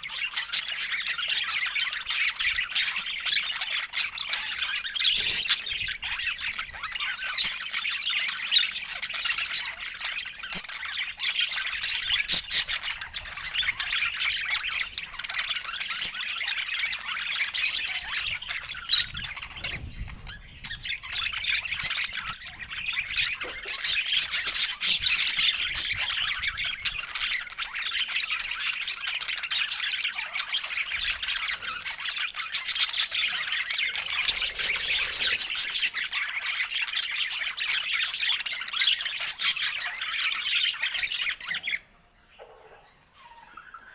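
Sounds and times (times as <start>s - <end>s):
budgerigars chattering and squawking: 0.0s - 43.9s.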